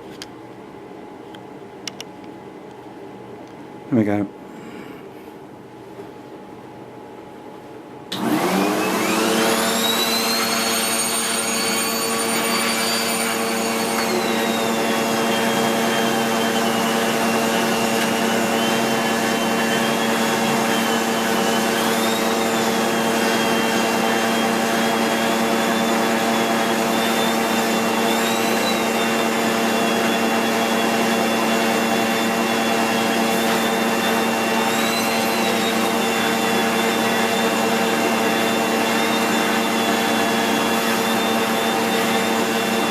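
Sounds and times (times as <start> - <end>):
vacuum cleaner motor whine: 8.1 - 42.9.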